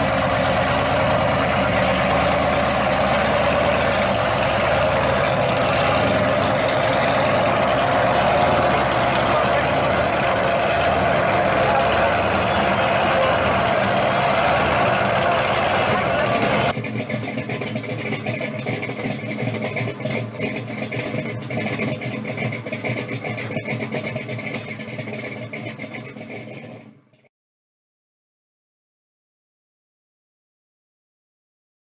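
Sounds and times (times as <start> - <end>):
car exhaust running loud: 0.0 - 27.3.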